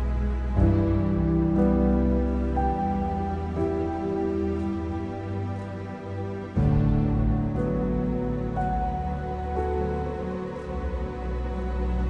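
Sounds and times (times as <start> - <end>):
slow sustained music notes: 0.0 - 12.0.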